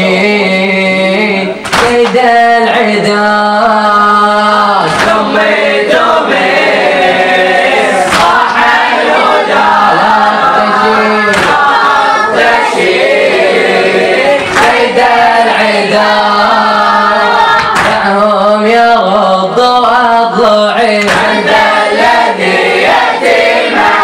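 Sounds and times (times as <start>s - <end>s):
boys chanting in chorus: 0.0s - 24.0s.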